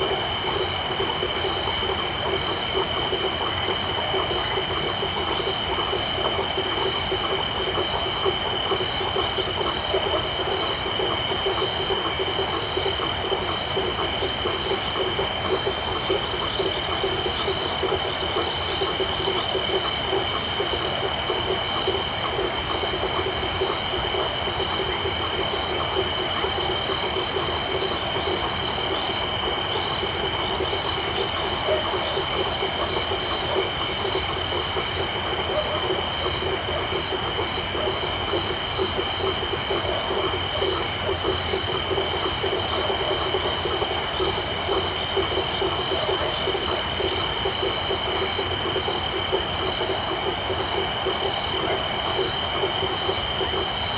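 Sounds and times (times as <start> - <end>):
overlapping frog calls: 0.0 - 53.9.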